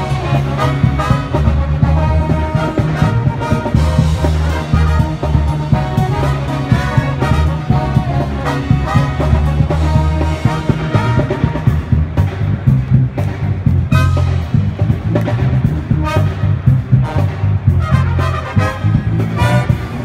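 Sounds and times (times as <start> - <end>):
pep band playing: 0.0 - 20.0.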